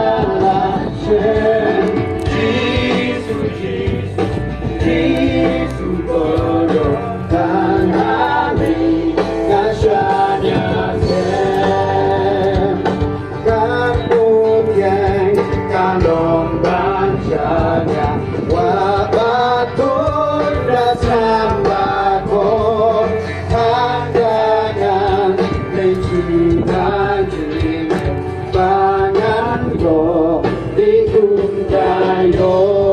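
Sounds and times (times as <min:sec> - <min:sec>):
steady musical accompaniment: 0:00.0 - 0:32.9
voices singing slow melody: 0:00.0 - 0:32.9.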